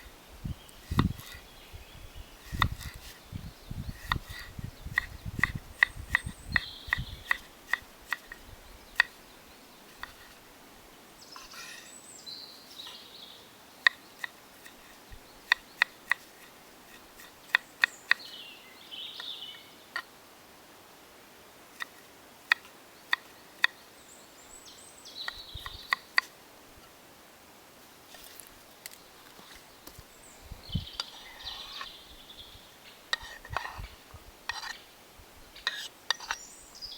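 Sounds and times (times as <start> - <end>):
birds calling: 0.0 - 20.2, 21.8 - 26.3, 28.1 - 36.9.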